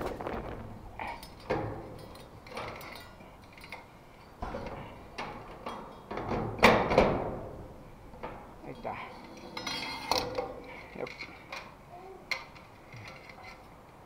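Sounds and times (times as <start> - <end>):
clicks and knocks of metal hardware: 1.0 - 7.2, 8.2 - 13.8.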